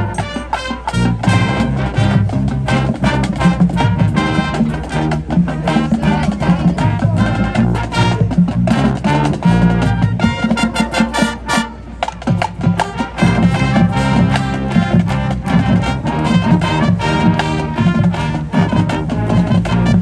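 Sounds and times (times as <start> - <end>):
drumline beat: 0.0 - 20.0
marching band brass tune: 0.0 - 20.0.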